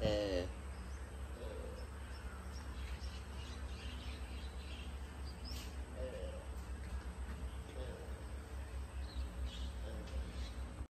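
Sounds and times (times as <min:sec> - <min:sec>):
birds and insects chirping: 0:00.0 - 0:10.9.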